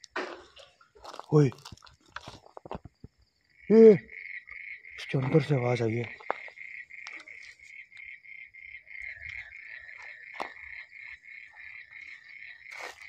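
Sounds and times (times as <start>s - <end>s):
chirping insects: 0.0s - 13.0s.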